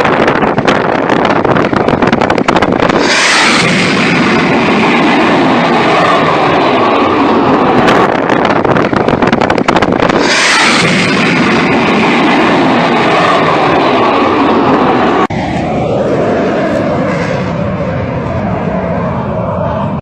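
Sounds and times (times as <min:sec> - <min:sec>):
fighter jet rushing roar: 0:00.0 - 0:20.0
wind buffeting microphone: 0:00.0 - 0:20.0.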